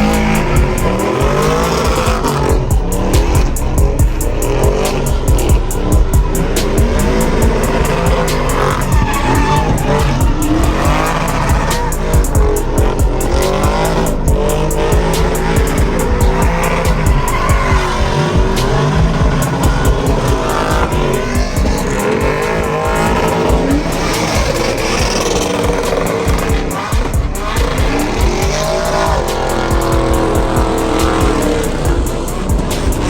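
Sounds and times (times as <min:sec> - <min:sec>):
music playing: 0:00.0 - 0:33.0
truck engine revving: 0:00.0 - 0:33.0
tyres squealing: 0:00.0 - 0:33.0.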